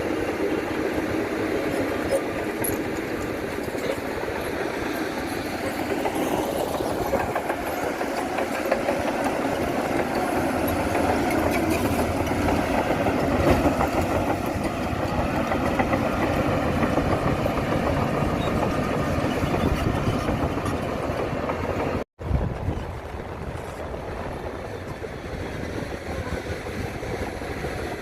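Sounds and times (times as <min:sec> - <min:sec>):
heavy diesel machinery clattering: 0:00.3 - 0:28.0.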